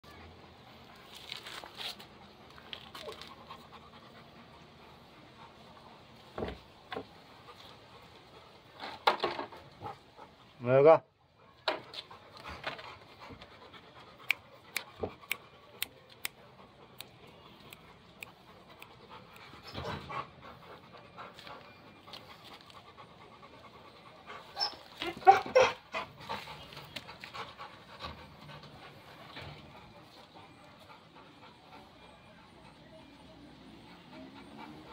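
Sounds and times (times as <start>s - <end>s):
dog panting: 3.0s - 8.8s, 9.7s - 10.6s, 11.3s - 34.9s.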